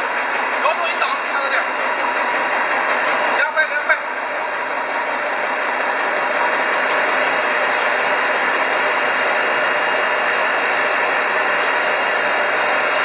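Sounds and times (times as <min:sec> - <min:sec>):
extruder machine running: 0:00.0 - 0:13.0.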